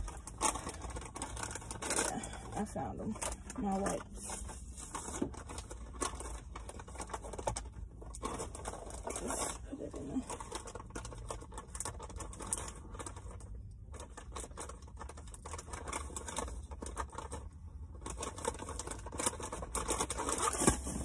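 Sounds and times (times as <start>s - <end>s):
low steady hum: 0.0s - 21.0s
packaging rustling: 0.0s - 21.0s.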